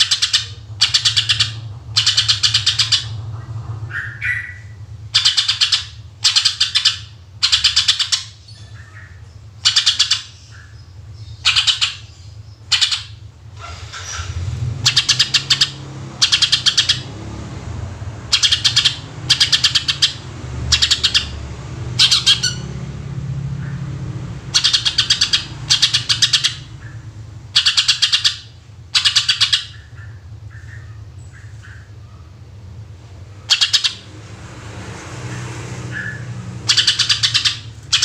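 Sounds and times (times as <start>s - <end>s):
bird singing rapid bursts: 0.0s - 3.3s, 3.9s - 32.6s, 33.3s - 34.2s, 35.2s - 38.0s
steady low hum: 0.0s - 38.0s.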